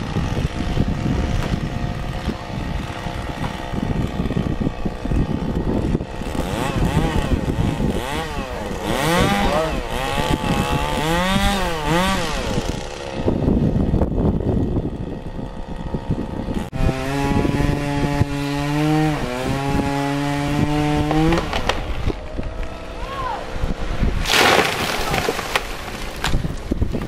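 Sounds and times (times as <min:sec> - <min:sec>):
chainsaw revving: 0:00.0 - 0:22.1
chainsaw cutting wood: 0:00.0 - 0:22.8, 0:24.2 - 0:27.0.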